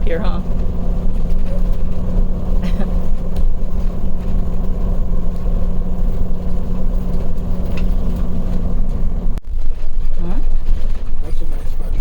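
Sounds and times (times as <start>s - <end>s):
road noise rumble: 0.0s - 12.0s
vehicle engine hum: 0.0s - 12.0s.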